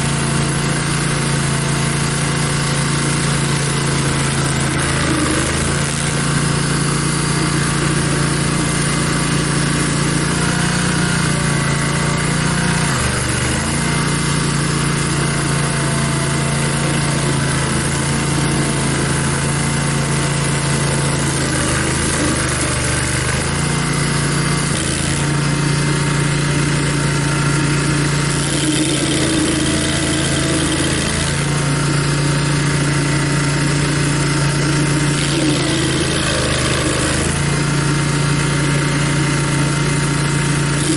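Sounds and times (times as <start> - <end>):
stump grinder engine running: 0.0 - 40.9.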